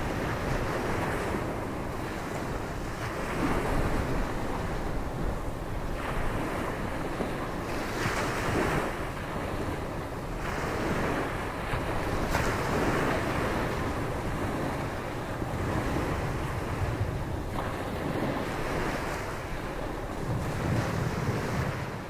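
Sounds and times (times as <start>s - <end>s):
ocean surf breaking: 0.0s - 22.0s
wind gusting over microphone: 0.0s - 22.0s.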